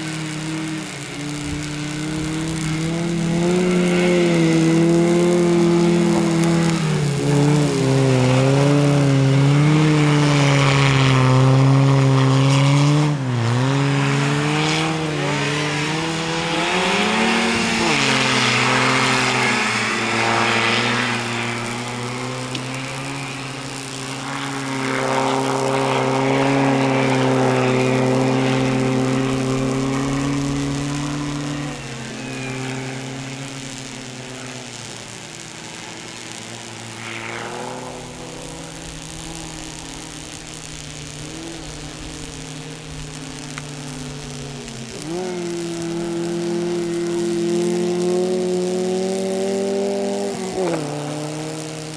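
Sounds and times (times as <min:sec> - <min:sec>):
snow vehicle engine under load: 0:00.0 - 0:51.9.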